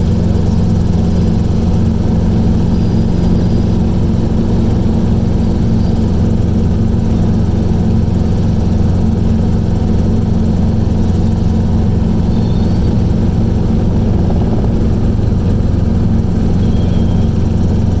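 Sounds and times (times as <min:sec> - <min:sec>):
small aircraft engine drone: 0:00.0 - 0:18.0.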